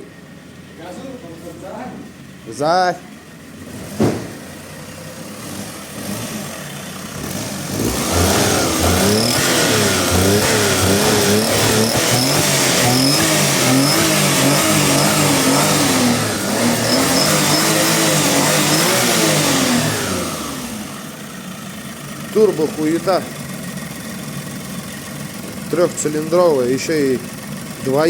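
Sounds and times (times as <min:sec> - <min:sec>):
car engine revving: 0:03.4 - 0:28.0.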